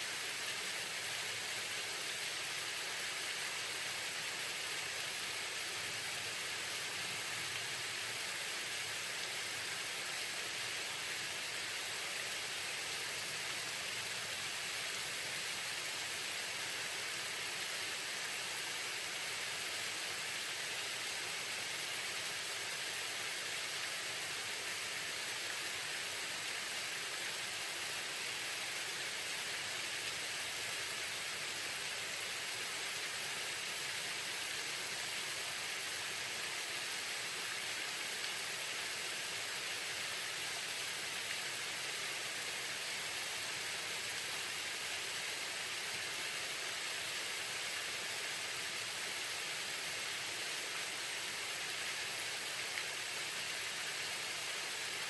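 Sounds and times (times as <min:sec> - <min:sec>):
waterfall pouring: 0:00.0 - 0:55.0.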